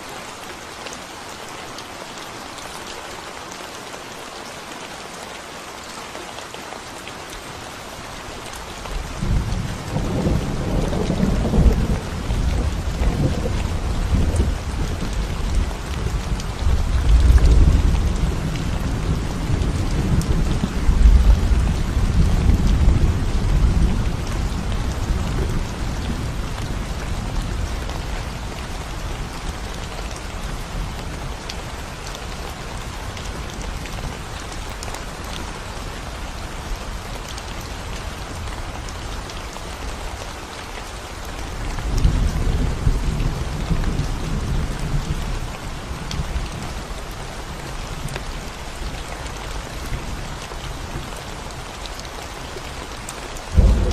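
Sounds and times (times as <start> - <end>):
rain falling on concrete: 0.0 - 53.9.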